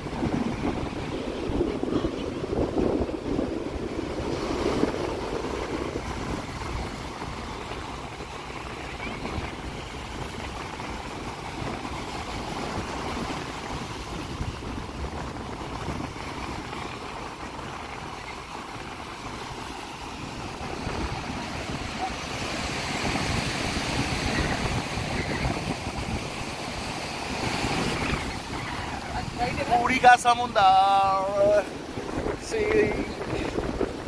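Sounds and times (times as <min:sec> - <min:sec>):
sea surf breaking on beach: 0:00.0 - 0:34.0
wind buffeting microphone: 0:00.0 - 0:34.0.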